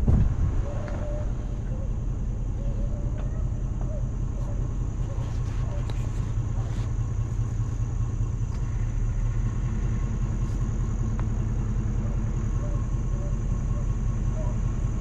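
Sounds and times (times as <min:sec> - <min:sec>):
truck engine and tyre rumble: 0:00.0 - 0:15.0.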